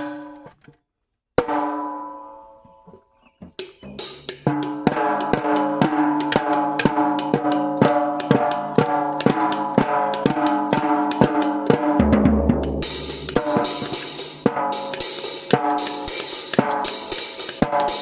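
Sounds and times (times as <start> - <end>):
drums with ringing heads: 1.4 - 18.0.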